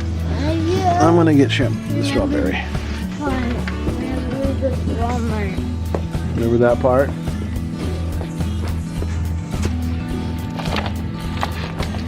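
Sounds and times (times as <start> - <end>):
background music with bass and beat: 0.0 - 12.0.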